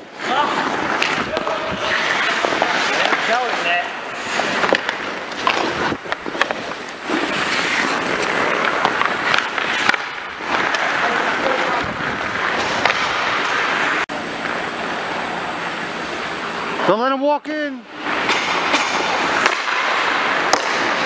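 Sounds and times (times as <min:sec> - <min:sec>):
hockey sticks and puck clacking: 0:00.0 - 0:14.6, 0:17.4 - 0:21.0
skates scraping on ice: 0:00.0 - 0:16.8, 0:17.9 - 0:21.0.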